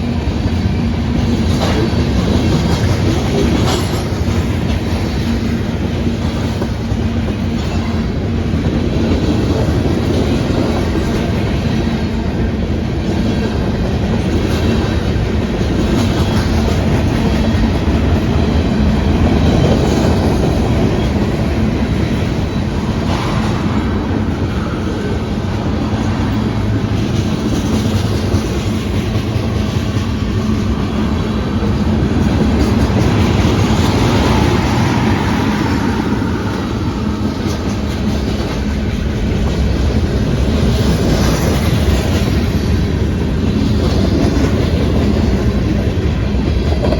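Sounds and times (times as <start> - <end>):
train wheels clacking on rails: 0.0 - 46.9.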